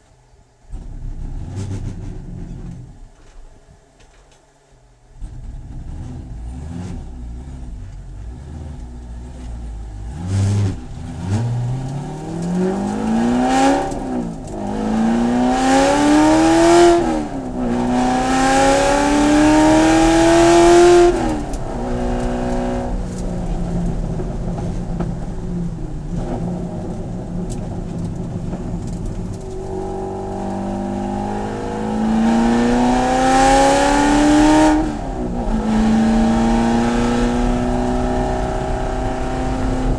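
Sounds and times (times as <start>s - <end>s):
race car engine accelerating: 5.2s - 39.9s.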